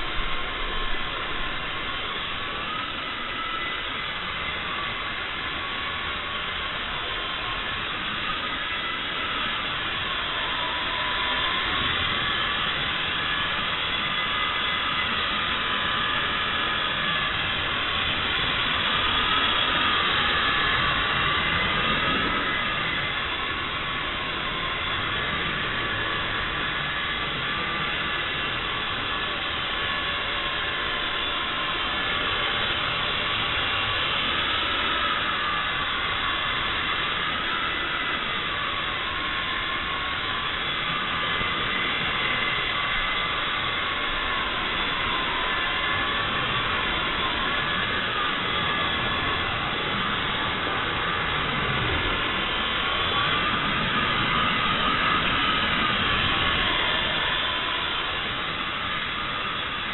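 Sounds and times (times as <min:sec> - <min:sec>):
rc helicopter motor whining: 0:00.0 - 0:59.9.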